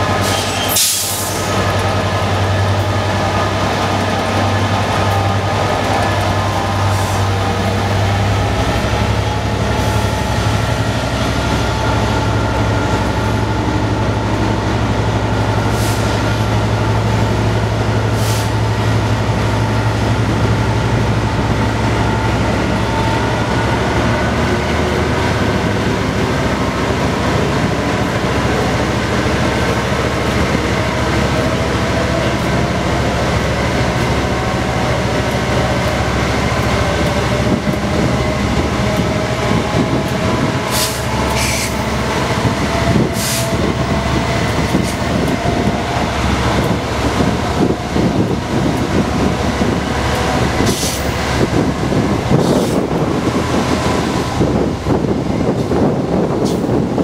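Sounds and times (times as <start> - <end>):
diesel locomotive engine: 0.0 - 57.0
wheel and rail noise: 0.0 - 57.0.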